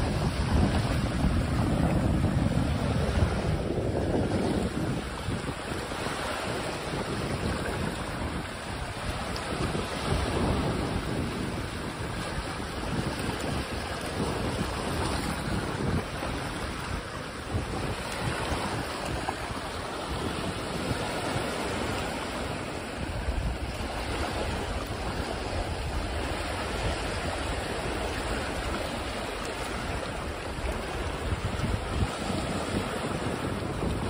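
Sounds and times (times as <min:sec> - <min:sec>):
small waves breaking on shore: 0:00.0 - 0:34.0
wind buffeting microphone: 0:00.0 - 0:34.0.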